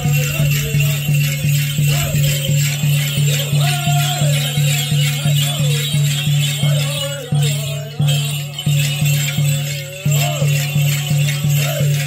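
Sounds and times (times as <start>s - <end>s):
bells and rattles jingling: 0.0s - 12.0s
low drum beating steadily: 0.0s - 12.0s
voices chanting: 0.0s - 12.0s.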